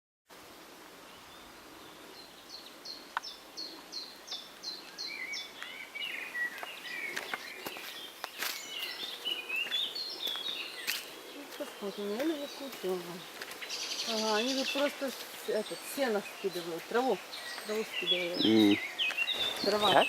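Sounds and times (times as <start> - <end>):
songbirds singing: 1.0 - 20.0.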